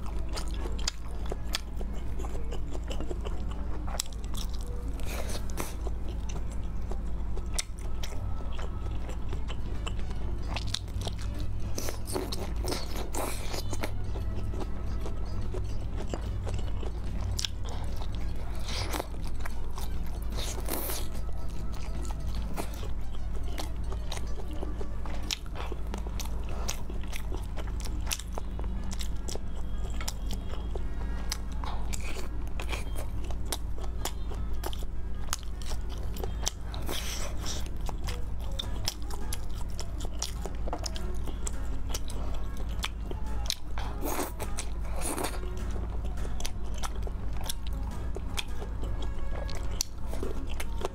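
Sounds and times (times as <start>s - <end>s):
crunching fried food: 0.0s - 50.9s
wet chewing: 0.0s - 50.9s.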